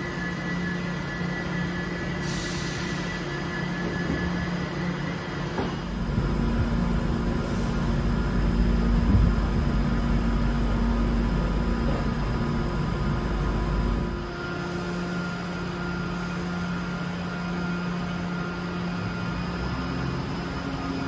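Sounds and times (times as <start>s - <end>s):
electrical hum and tones: 0.0s - 21.0s.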